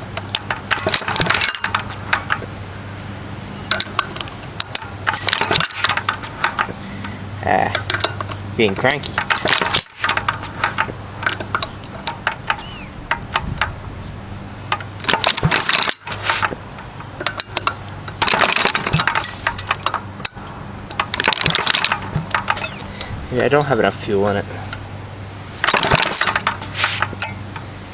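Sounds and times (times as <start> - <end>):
engine clicking and clattering: 0.0 - 2.4, 3.7 - 13.8, 14.7 - 24.4, 25.6 - 27.7.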